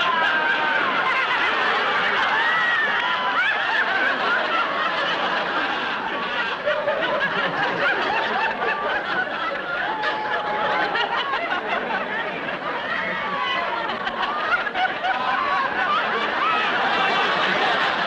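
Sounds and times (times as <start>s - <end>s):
studio audience laughing: 0.0s - 18.0s.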